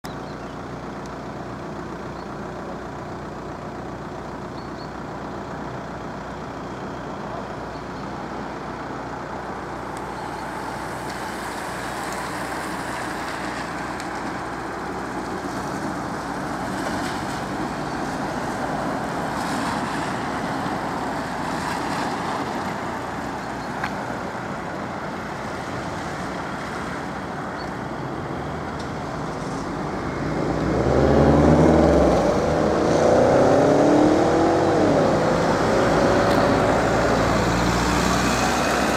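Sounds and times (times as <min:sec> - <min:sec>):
hum of car engines and tyres: 0:00.0 - 0:38.9.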